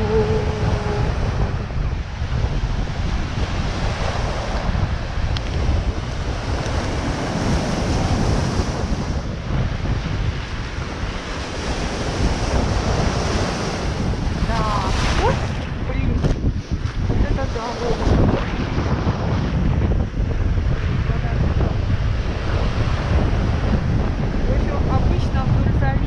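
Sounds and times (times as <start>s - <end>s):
waves washing on shore: 0.0s - 26.0s
wind buffeting microphone: 0.0s - 26.0s.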